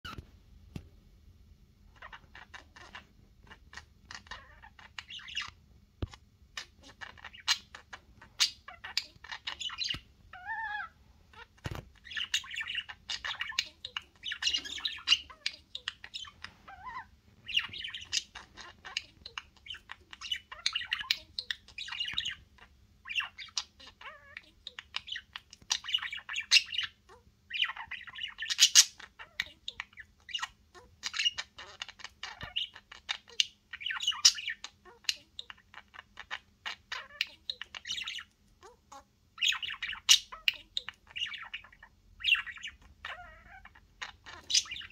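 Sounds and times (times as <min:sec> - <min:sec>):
budgerigars chattering and squawking: 0:01.9 - 0:44.9.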